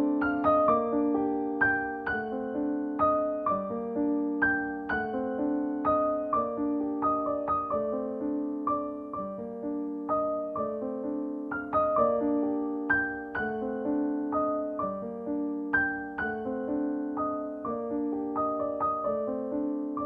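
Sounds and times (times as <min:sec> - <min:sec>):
soft slow piano music: 0:00.0 - 0:20.0.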